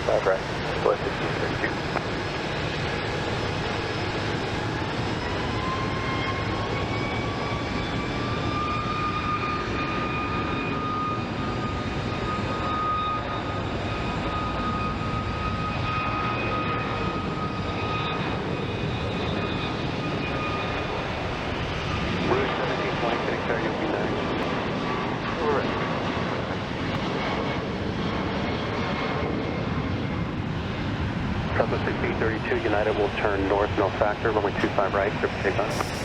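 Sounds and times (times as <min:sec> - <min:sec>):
jet engines whining: 0:00.0 - 0:36.0.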